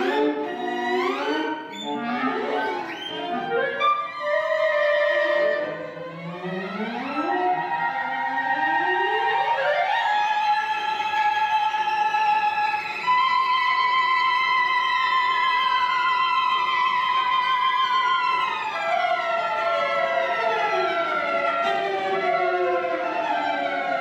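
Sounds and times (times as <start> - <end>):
cello: 0.0 - 24.0
clarinet: 0.0 - 24.0
violin: 0.0 - 24.0.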